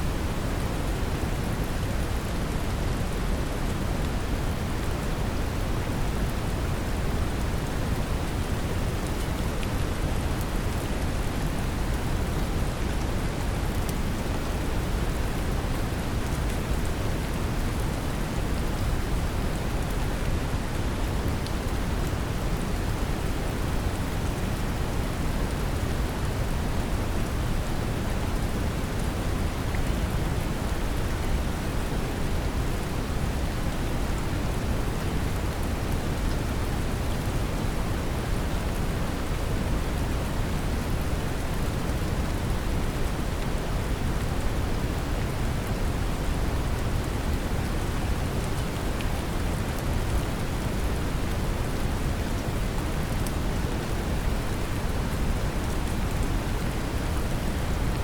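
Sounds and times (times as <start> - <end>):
gentle rain: 0.0 - 58.0.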